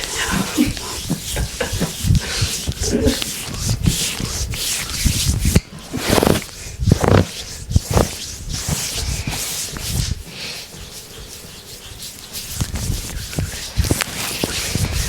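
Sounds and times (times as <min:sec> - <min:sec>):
hands rubbing skin: 0:00.0 - 0:15.0.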